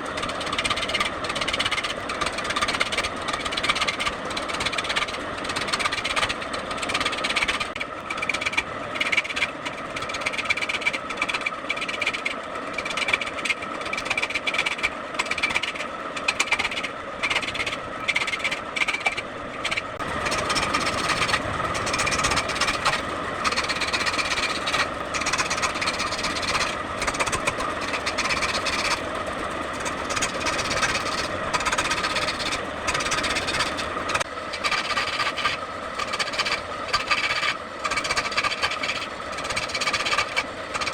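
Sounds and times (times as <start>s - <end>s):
tool cutting spinning wood: 0.0s - 40.9s
wood lathe whine: 0.0s - 40.9s.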